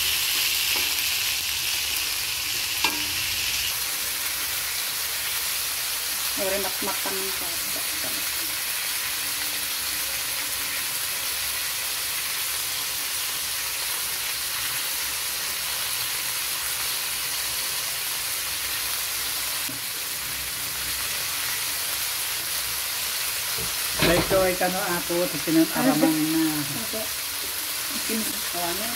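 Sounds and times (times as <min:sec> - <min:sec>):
vegetables sizzling in a wok: 0:00.0 - 0:28.9.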